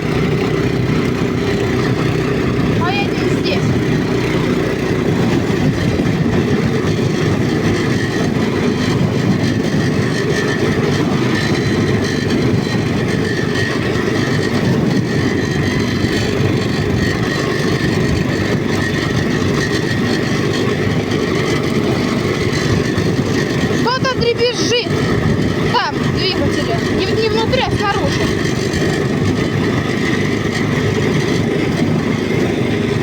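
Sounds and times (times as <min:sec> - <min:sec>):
rattle on engine: 0:00.0 - 0:33.0
tractor engine running: 0:00.0 - 0:33.0.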